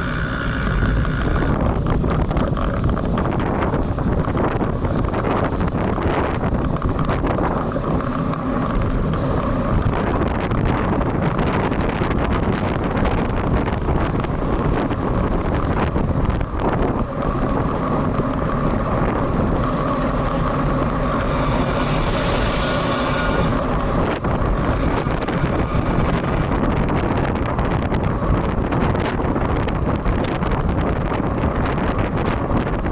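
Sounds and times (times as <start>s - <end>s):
road rumble: 0.0s - 32.9s
wind buffeting microphone: 0.0s - 32.9s.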